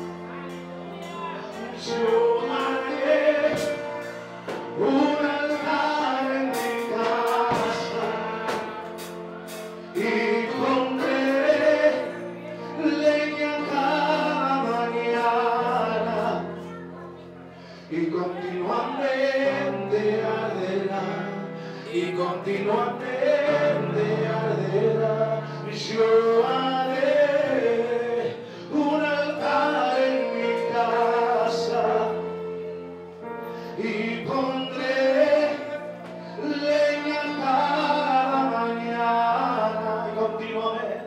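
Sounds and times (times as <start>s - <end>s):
man singing through microphone: 0.0s - 41.0s
sustained accompanying chords: 0.0s - 41.0s.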